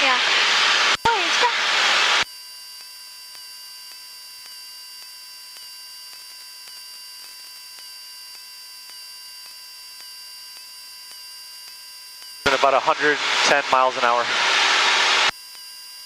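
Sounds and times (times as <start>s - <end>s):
intercom electrical hiss and hum: 0.0s - 15.3s
faint steady tones: 1.0s - 16.0s.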